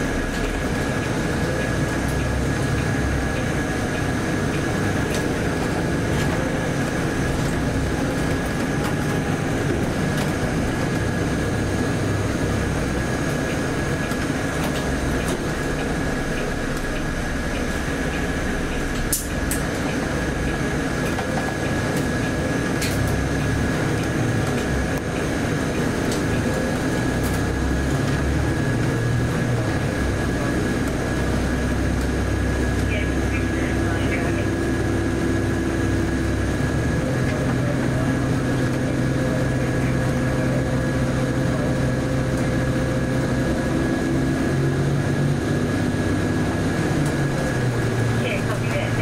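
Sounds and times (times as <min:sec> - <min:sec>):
bus diesel engine running: 0:00.0 - 0:49.0
road noise: 0:00.0 - 0:49.0.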